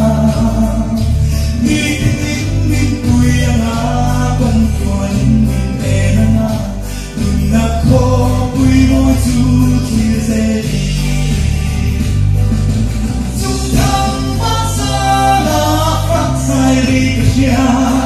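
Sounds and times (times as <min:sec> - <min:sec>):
man singing into microphone: 0:00.0 - 0:11.8, 0:13.4 - 0:18.0
amplified backing music: 0:00.0 - 0:18.0
steady bass line: 0:00.0 - 0:18.0.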